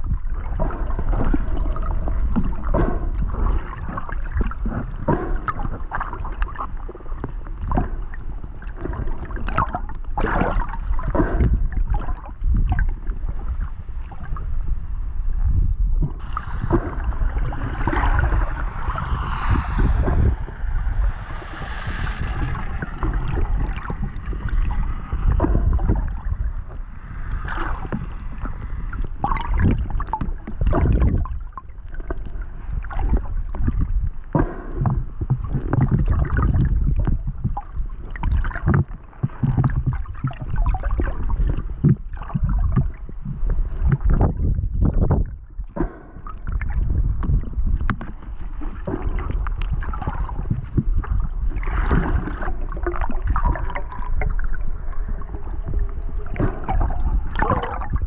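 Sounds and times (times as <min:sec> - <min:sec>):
underwater water rumble: 0:00.0 - 0:58.0
water gurgles and sloshes: 0:00.0 - 0:58.0.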